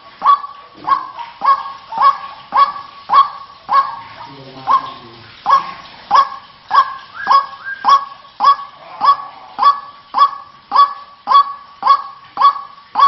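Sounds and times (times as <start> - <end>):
waterhen honking call: 0.0 - 13.0.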